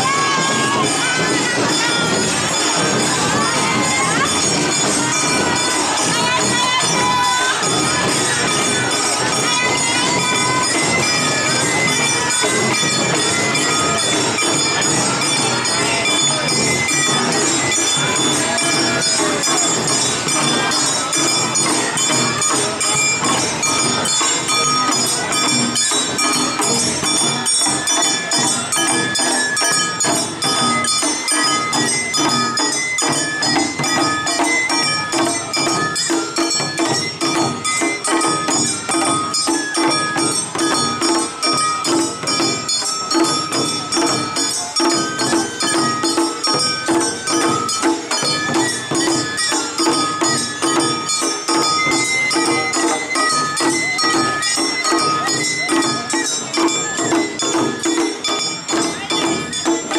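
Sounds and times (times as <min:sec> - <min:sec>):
taiko drums beaten with sticks: 0:00.0 - 0:59.9.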